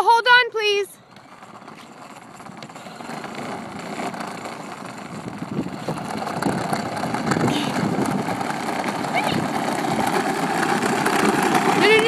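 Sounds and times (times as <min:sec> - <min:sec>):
plastic wheels rolling on asphalt: 0:00.0 - 0:12.0
electric toy motor whirring: 0:01.1 - 0:12.0.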